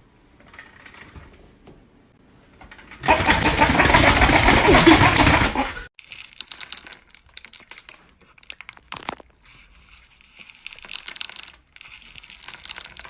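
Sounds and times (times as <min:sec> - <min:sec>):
crinkling and clicking rustles: 0:02.5 - 0:13.0.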